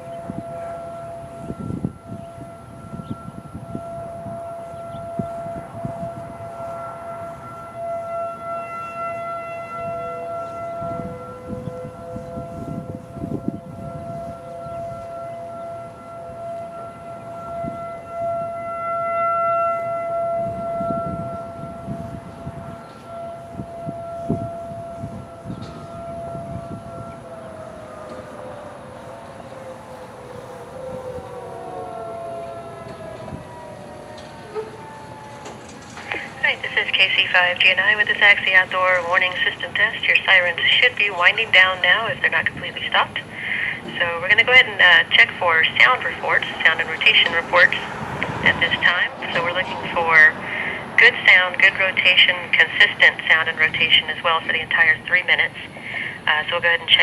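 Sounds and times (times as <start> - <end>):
distant warning sirens: 0.0 - 57.0.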